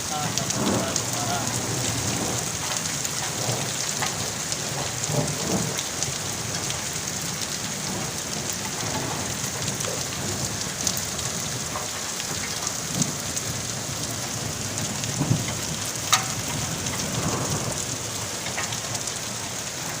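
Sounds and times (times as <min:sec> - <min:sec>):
rain pattering on surfaces: 0:00.0 - 0:20.0.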